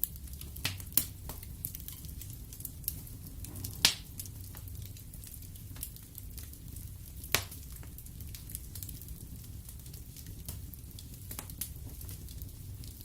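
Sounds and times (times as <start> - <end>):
burning logs crackling and popping: 0.0 - 13.0
fire flames rumbling: 0.0 - 13.0.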